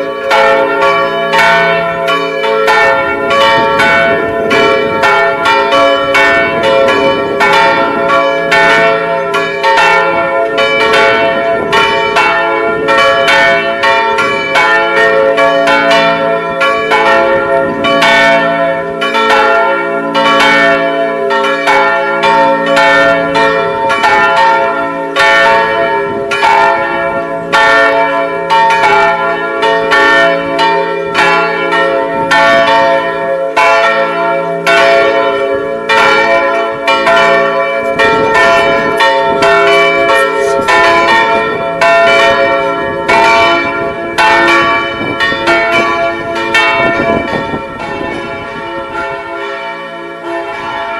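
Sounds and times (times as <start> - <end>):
church bells ringing: 0.0 - 50.9.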